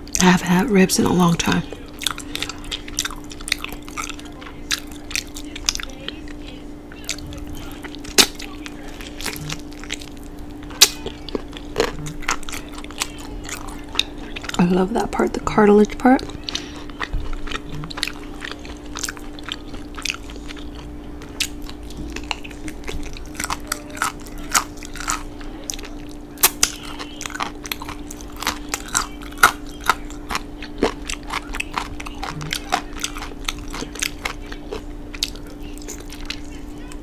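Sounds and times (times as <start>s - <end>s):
steady low hum: 0.0s - 37.0s
person chewing meat: 1.7s - 14.6s, 16.2s - 37.0s.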